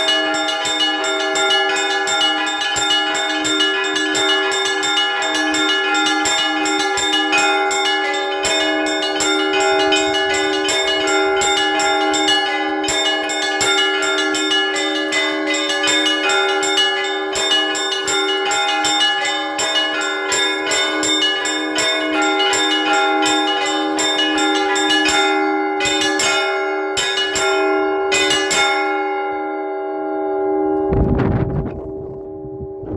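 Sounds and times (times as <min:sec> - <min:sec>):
church bells pealing: 0:00.0 - 0:31.5.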